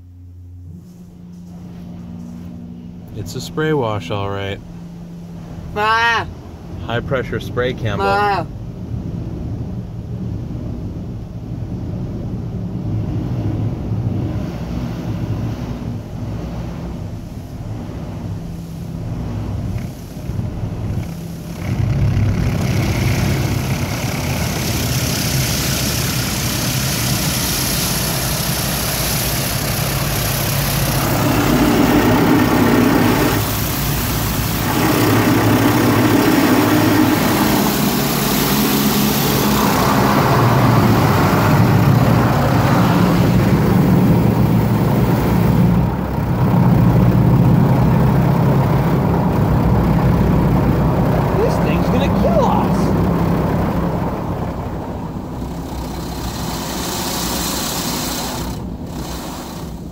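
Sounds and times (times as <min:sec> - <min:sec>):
water jets spraying car: 0:00.0 - 0:05.2, 0:12.6 - 0:59.9
low hum: 0:00.0 - 0:59.9.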